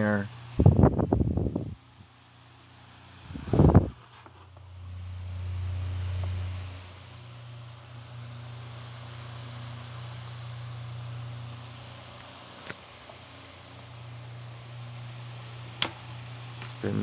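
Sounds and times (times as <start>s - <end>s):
table fan running: 0.0s - 17.0s.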